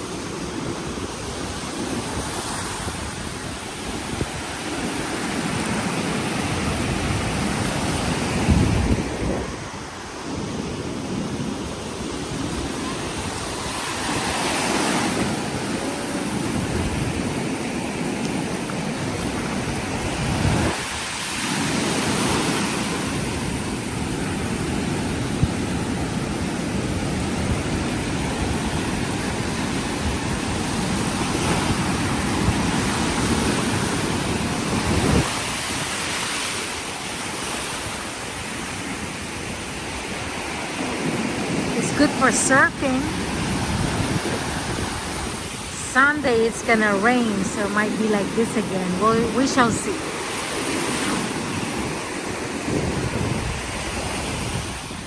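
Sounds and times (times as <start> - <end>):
surf breaking on sand: 0.0 - 55.0
wind gusting on microphone: 0.0 - 55.0.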